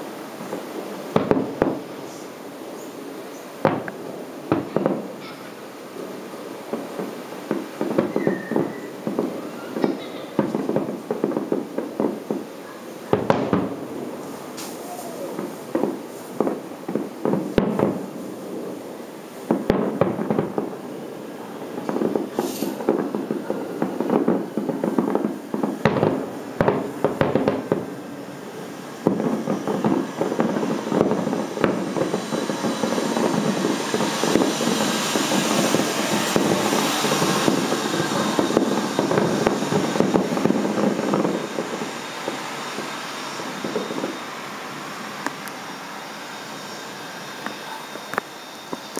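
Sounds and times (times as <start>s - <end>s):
fireworks bangs and crackle: 0.0s - 48.9s.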